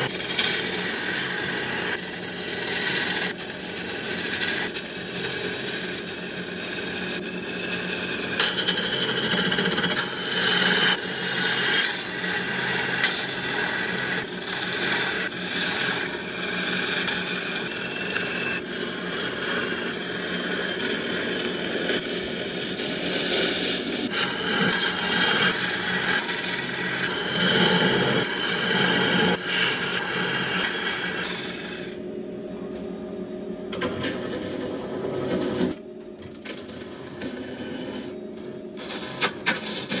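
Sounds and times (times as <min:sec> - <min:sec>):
turning tool cutting wood: 0:00.0 - 0:32.0, 0:36.4 - 0:38.2, 0:38.8 - 0:40.0
lathe motor hum: 0:00.0 - 0:40.0.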